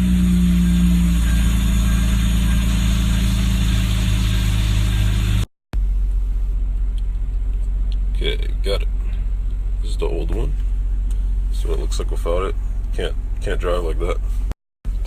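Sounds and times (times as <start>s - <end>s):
car engine idling: 0.0s - 14.3s.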